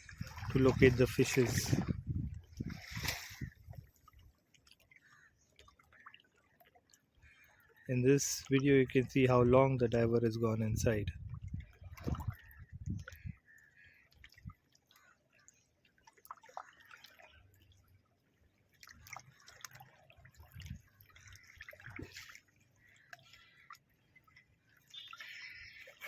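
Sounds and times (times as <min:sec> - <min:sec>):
water drips and soft splashes: 0:00.0 - 0:26.0.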